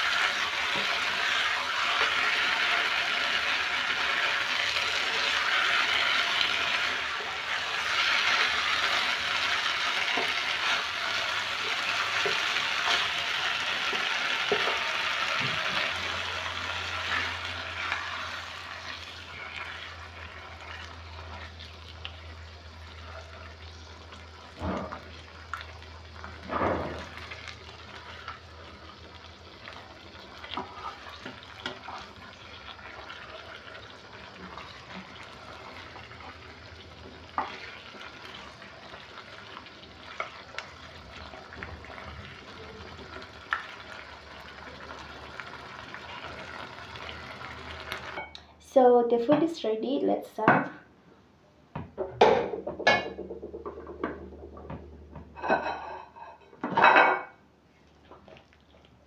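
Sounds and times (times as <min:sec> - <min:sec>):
sauce sizzling in a pot: 0:00.0 - 0:48.3.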